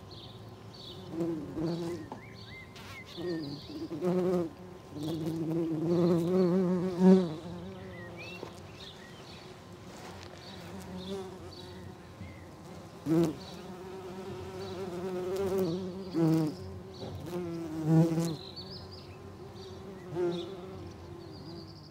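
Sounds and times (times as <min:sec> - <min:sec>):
bumblebees buzzing: 0:00.1 - 0:21.9.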